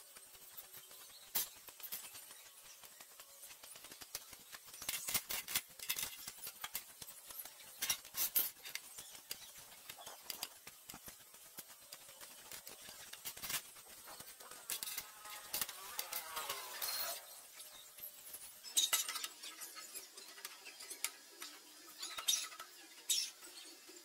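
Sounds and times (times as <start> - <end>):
metal parts and tools clicking: 3.5 - 23.6.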